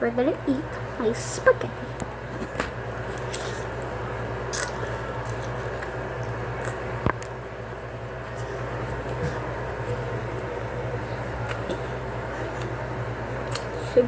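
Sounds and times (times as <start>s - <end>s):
steady low hum: 0.0s - 14.0s
squishy eating noises: 2.3s - 14.0s.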